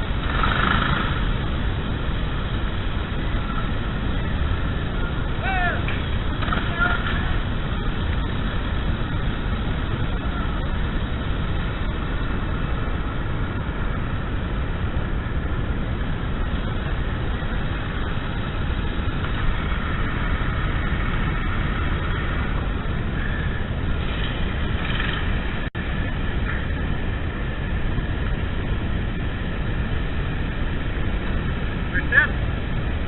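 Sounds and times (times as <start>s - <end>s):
vehicle rumbling: 0.0s - 33.0s.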